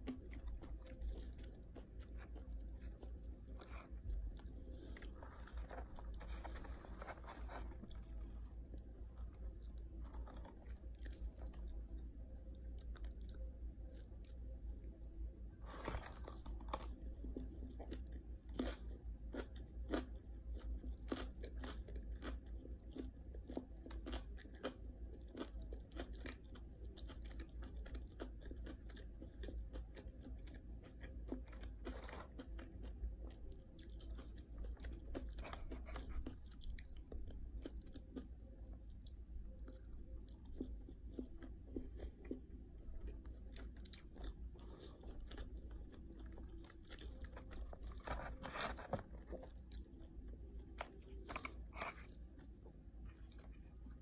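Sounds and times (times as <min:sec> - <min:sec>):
chewing crunchy food: 0:00.0 - 0:54.0.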